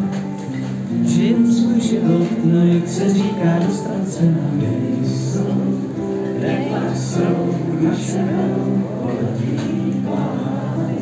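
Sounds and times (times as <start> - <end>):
men singing: 1.1 - 11.0.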